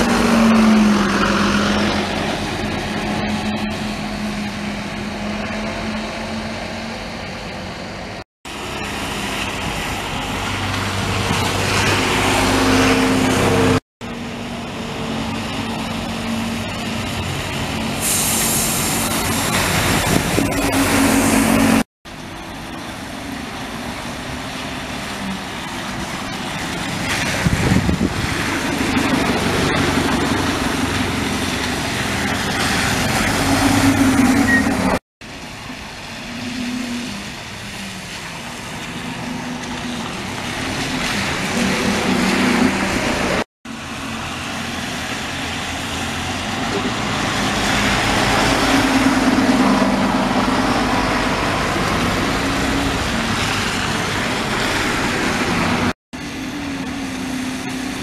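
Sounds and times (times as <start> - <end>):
bus engines accelerating: 0.0 - 58.0.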